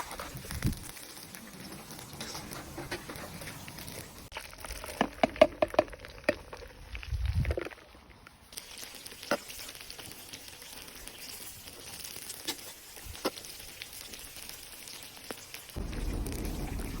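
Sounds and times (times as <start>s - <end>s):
food sizzling in hot oil: 0.0s - 7.4s, 8.4s - 17.0s
oil popping and crackling: 0.0s - 17.0s.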